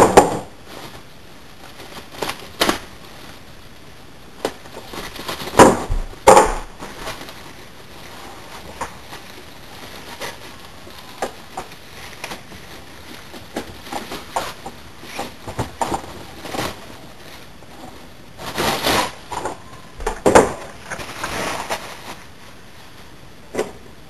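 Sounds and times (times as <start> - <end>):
plastic bag crinkling: 0.3 - 23.5.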